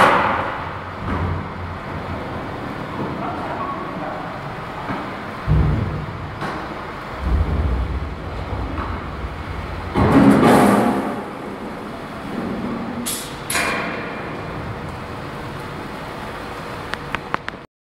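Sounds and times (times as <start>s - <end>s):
industrial machinery hum: 0.0s - 17.7s
mechanical noise: 0.0s - 17.7s.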